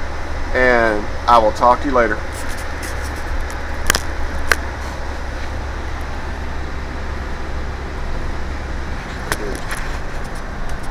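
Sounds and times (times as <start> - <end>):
vehicle engine low hum: 0.0 - 10.9.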